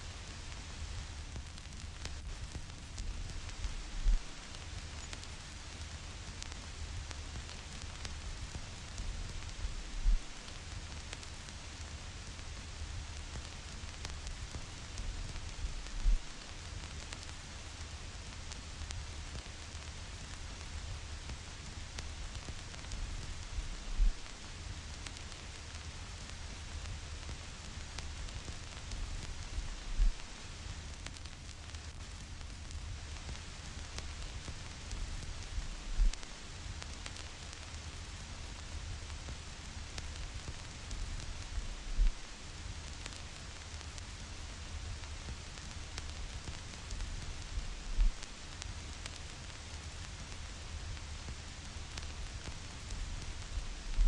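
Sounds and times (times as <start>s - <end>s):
vinyl record crackle and hiss: 0.0s - 54.0s.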